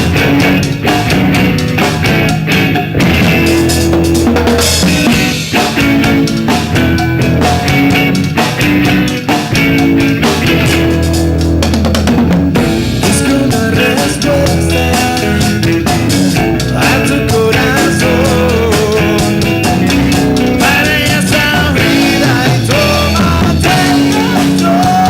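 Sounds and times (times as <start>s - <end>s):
drum kit pounding: 0.0s - 25.0s
rock band playing: 0.0s - 25.0s.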